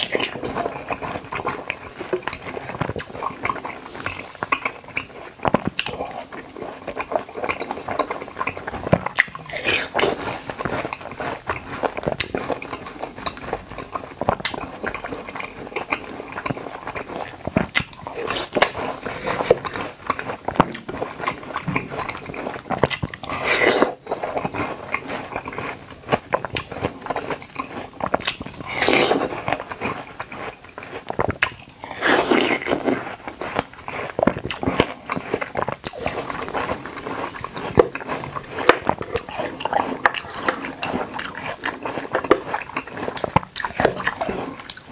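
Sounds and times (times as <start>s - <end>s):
crunchy chewing mouth sounds: 0.0s - 44.9s.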